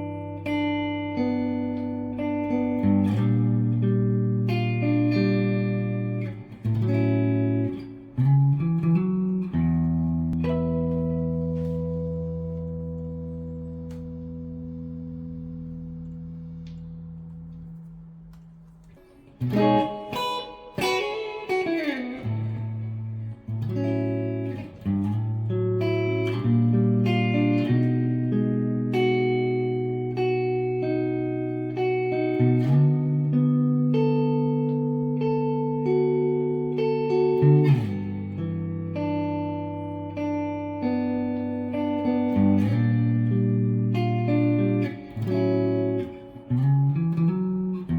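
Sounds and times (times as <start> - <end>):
electric guitar: 0.0 - 47.9.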